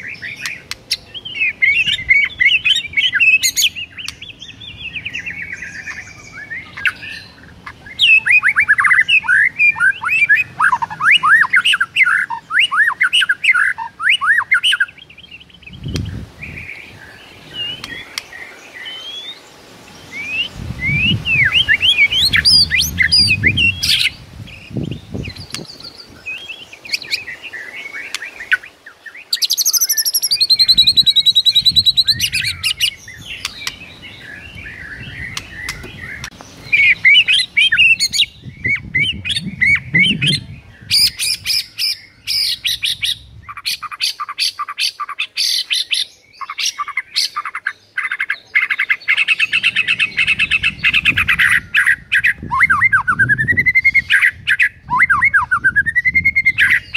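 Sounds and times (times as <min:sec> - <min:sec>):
bird singing whistles and trills: 0:00.0 - 0:56.9.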